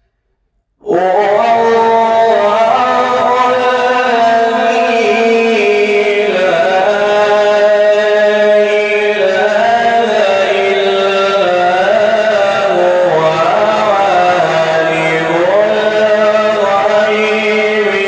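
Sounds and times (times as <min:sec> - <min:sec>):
man chanting melodically: 0:00.8 - 0:18.0.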